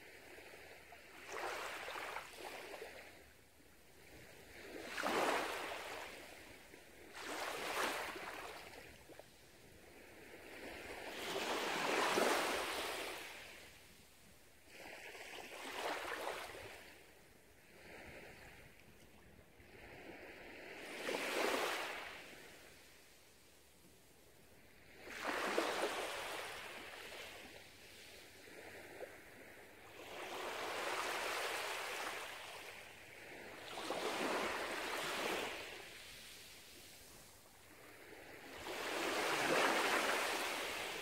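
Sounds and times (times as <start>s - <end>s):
small waves washing onto sand: 4.0s - 17.0s, 17.6s - 23.1s, 24.6s - 41.0s.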